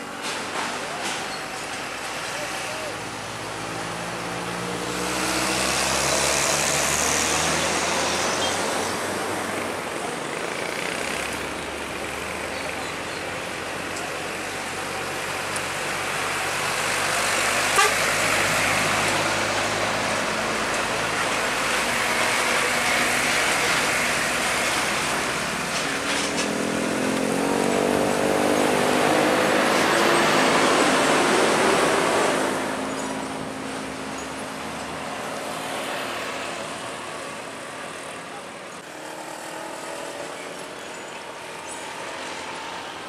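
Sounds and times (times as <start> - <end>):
road and tyre noise: 0.0 - 43.0
truck accelerating: 0.0 - 43.0
truck diesel engines: 0.0 - 43.0.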